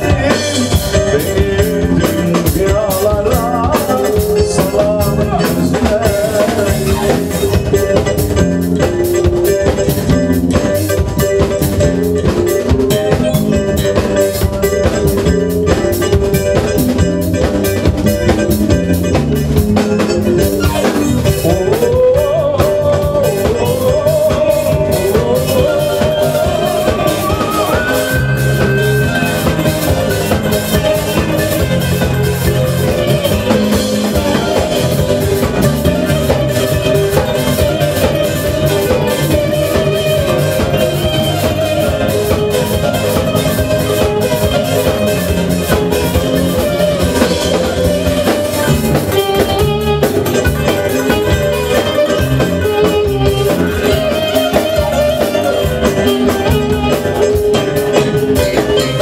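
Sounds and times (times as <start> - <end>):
band playing: 0.0 - 59.0
clarinet melody: 0.0 - 59.0.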